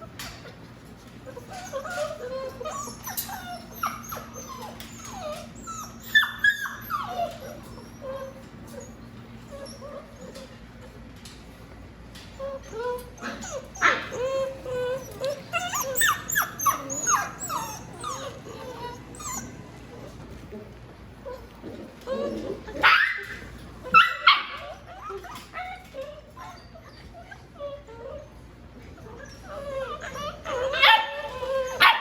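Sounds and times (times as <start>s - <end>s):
puppies whimpering and yipping: 0.0s - 11.0s, 12.1s - 20.2s, 21.2s - 32.0s.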